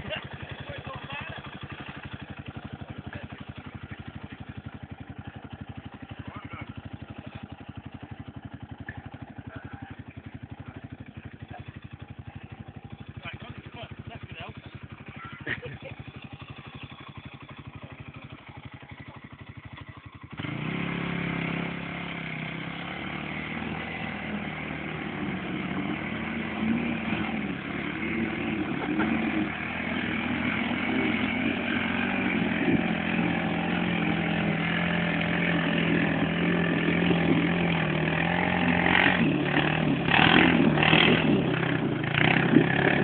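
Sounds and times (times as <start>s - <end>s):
quad bike engine revving: 0.0s - 43.0s.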